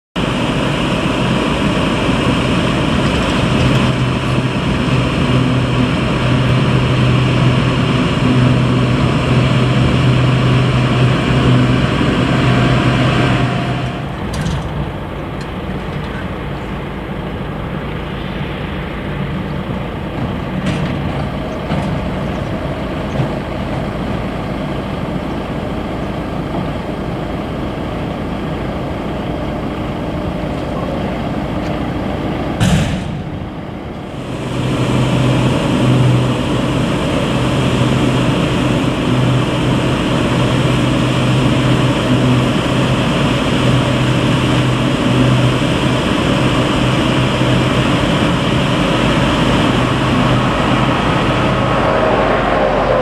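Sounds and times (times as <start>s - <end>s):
heavy machinery engine humming: 0.2s - 53.0s.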